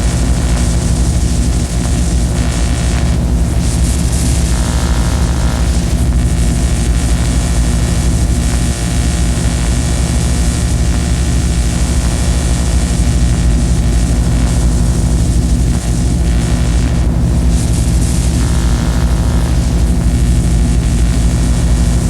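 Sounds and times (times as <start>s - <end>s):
loud dense hiss: 0.0s - 22.0s
steady low drone: 0.0s - 22.0s.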